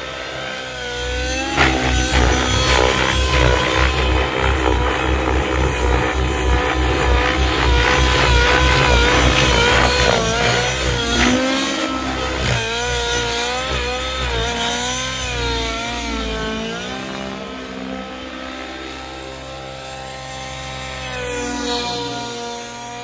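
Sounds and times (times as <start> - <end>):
model helicopter engine in flight: 0.0 - 23.0.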